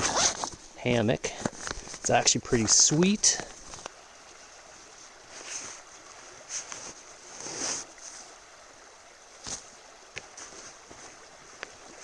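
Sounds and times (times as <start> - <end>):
camping gear rustling: 0.0 - 8.6, 9.2 - 12.0
faint steady hiss: 0.0 - 12.0.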